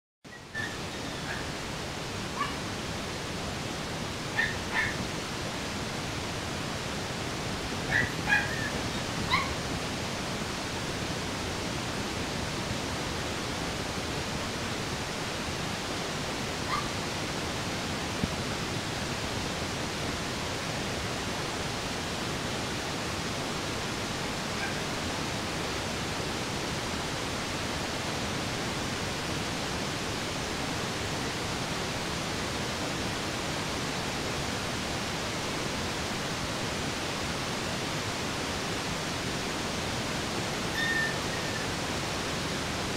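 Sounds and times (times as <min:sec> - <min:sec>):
steady hiss: 0:00.3 - 0:42.9.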